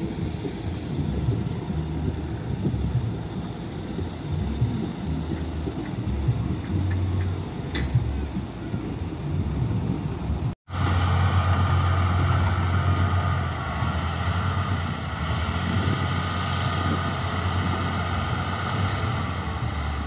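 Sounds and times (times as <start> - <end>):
diesel machinery engine drone: 0.0 - 20.0.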